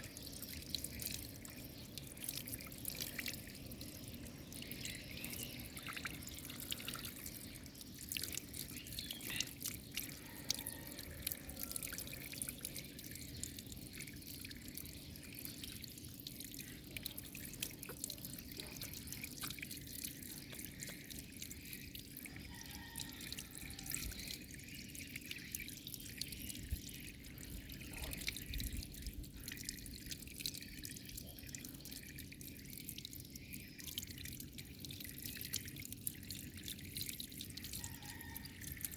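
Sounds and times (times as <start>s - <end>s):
drips and splashes: 0.0s - 38.9s.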